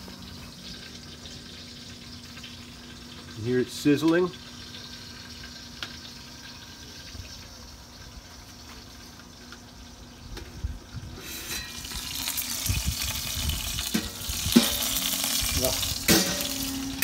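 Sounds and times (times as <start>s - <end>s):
meat sizzling with a steady hiss: 0.0s - 17.0s.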